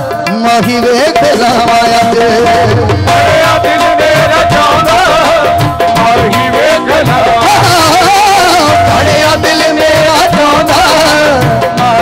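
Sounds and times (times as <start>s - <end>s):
man singing ornamented runs: 0.0s - 12.0s
steady drum beat: 0.0s - 12.0s
held keyboard note: 0.2s - 10.5s.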